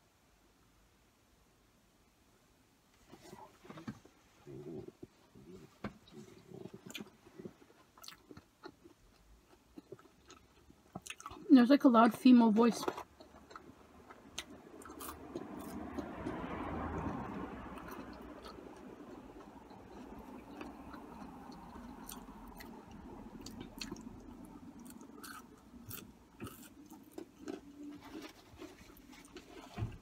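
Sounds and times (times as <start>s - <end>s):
chewing fries: 4.4s - 30.0s.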